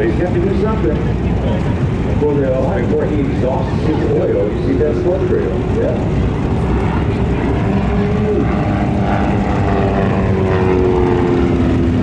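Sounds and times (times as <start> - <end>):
light aircraft engine and propeller: 0.0 - 12.0.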